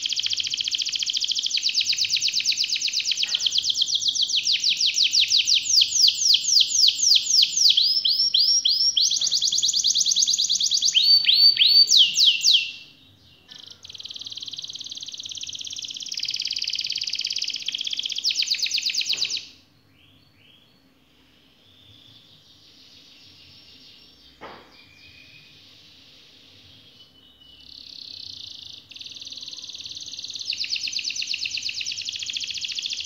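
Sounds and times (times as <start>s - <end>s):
canary singing and trilling: 0.0s - 20.9s, 26.6s - 33.0s.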